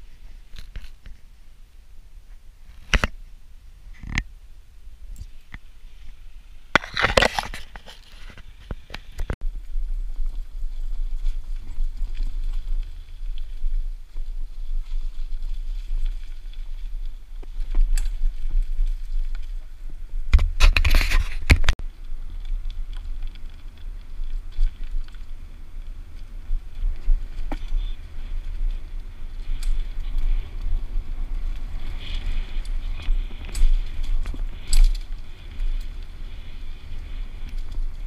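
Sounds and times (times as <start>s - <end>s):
bike clicks and rattles: 0.0s - 1.3s, 5.1s - 38.0s
bike tyres on dirt: 0.0s - 38.0s
wind on microphone: 0.0s - 38.0s.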